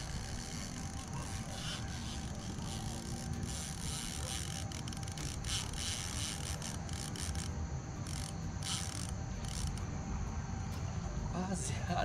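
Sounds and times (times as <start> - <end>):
fishing reel ratchet clicking: 0.0 - 9.9.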